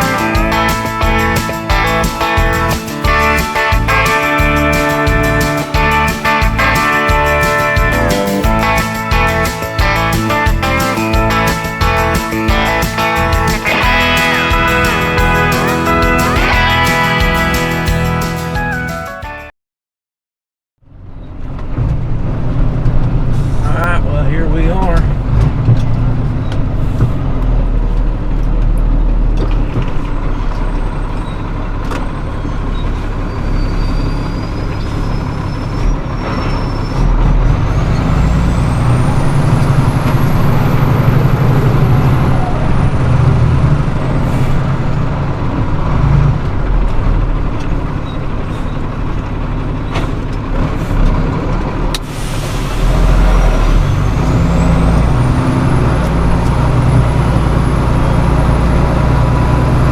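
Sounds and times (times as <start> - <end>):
truck engine and road noise: 0.0 - 19.5, 20.8 - 59.9.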